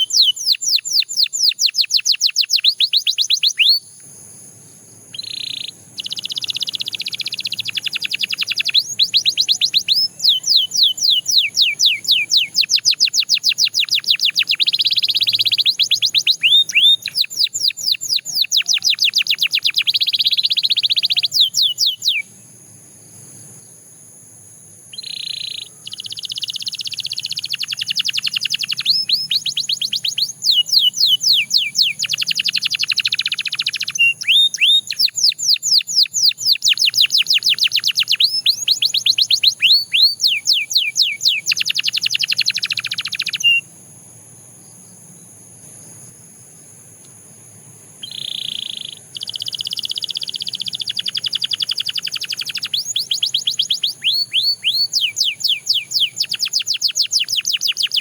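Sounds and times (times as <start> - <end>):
canary singing trills: 0.0 - 22.4, 24.9 - 43.7, 48.0 - 58.0.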